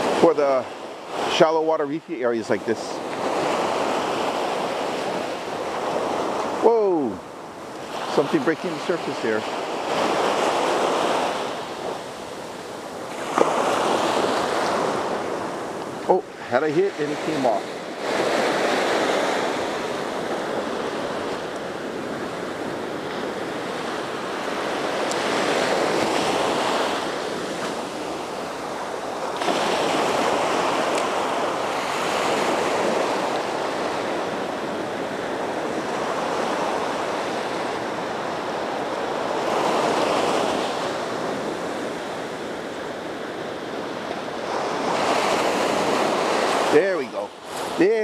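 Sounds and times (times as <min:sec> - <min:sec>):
waves breaking on sandy beach: 0:00.0 - 0:48.0.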